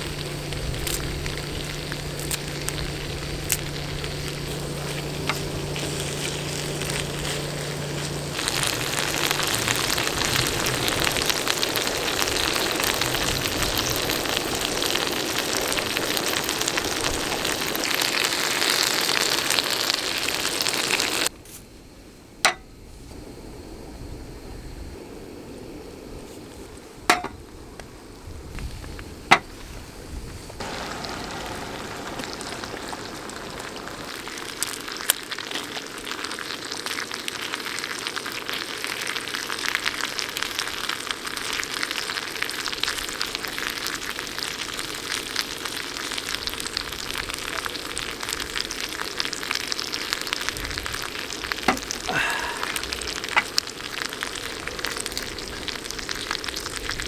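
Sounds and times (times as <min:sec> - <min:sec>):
food sizzling in a pan: 0:00.0 - 0:21.3, 0:30.6 - 0:57.0.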